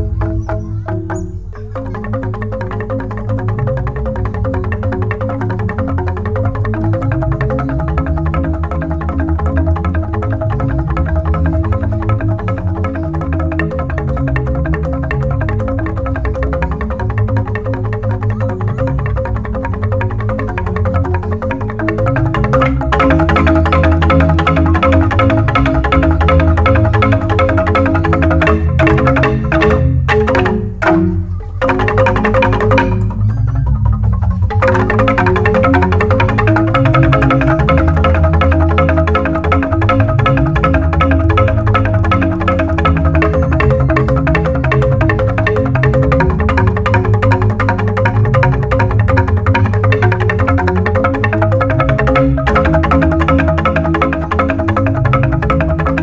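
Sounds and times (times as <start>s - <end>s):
bamboo gamelan mallet strikes: 0.0s - 56.0s
deep sustained bass notes: 1.5s - 56.0s.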